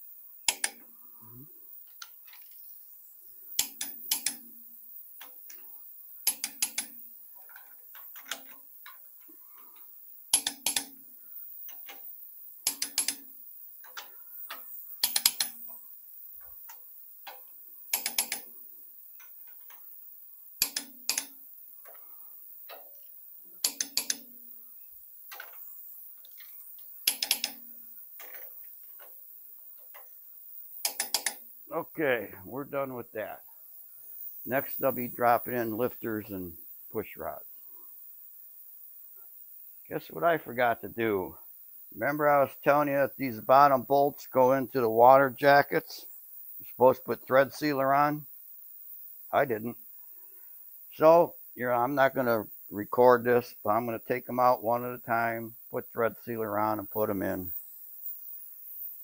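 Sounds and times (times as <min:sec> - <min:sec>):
torque wrench clicking: 0:00.0 - 0:01.0, 0:01.7 - 0:31.6, 0:33.4 - 0:39.8, 0:42.6 - 0:52.8, 0:56.6 - 0:59.0.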